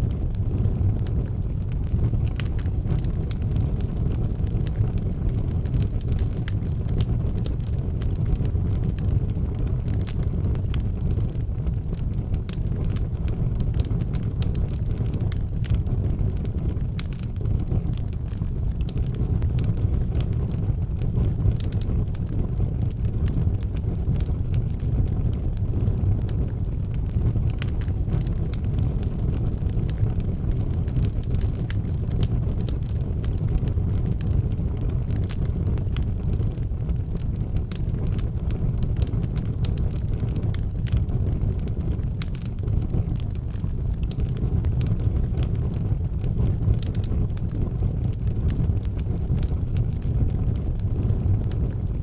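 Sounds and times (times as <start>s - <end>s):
burning wood crackling and popping: 0.0s - 52.0s
fire flames rumbling: 0.0s - 52.0s.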